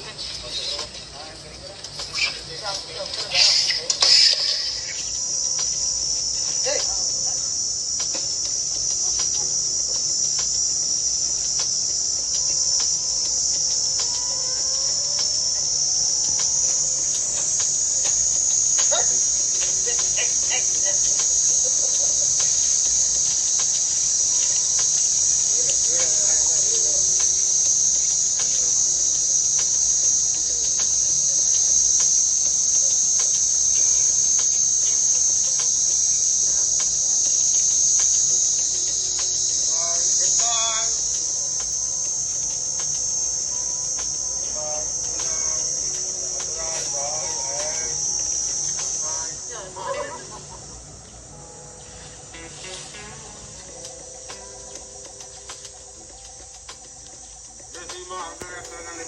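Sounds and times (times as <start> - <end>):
insects droning: 0.0 - 59.0
faint clicks and chirps: 0.1 - 49.0, 53.6 - 59.0.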